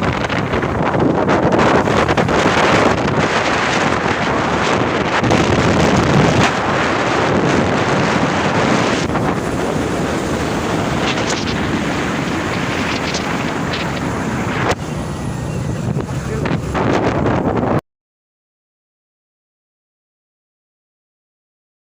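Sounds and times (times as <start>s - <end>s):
vehicle and road noise: 0.0s - 17.8s
wind rushing over microphone: 0.0s - 17.8s.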